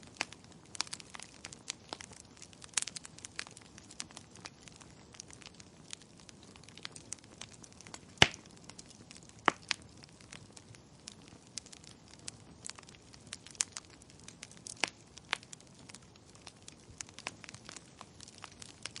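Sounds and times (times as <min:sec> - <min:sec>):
faint steady hiss: 0:00.0 - 0:19.0
wood fire crackling and popping: 0:00.0 - 0:19.0.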